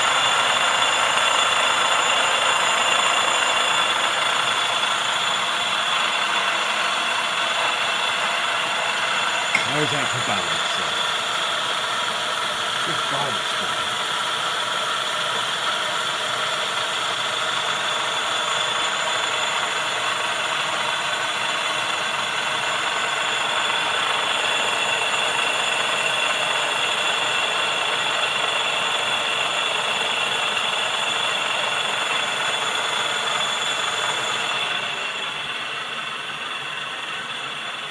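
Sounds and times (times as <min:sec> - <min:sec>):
grinder wheel whirring with whine: 0:00.0 - 0:37.9.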